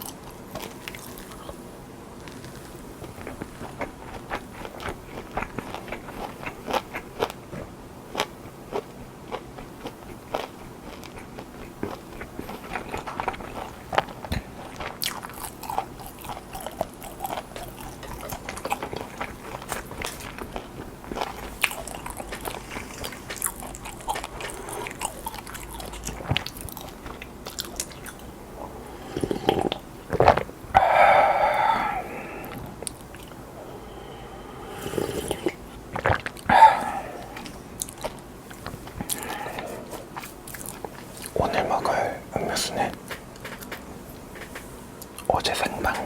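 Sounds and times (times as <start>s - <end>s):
biting crunching and chewing: 2.2s - 34.1s, 34.7s - 43.8s.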